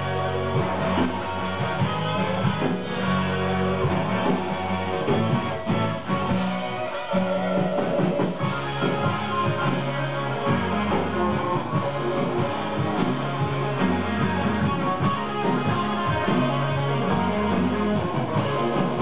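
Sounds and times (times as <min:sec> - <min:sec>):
bass line: 0:00.0 - 0:19.0
rock guitar: 0:00.0 - 0:19.0.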